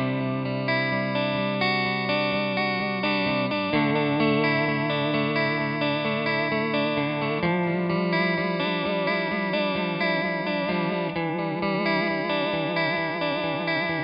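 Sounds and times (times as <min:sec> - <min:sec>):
electric guitar chords with chorus: 0:00.0 - 0:14.0.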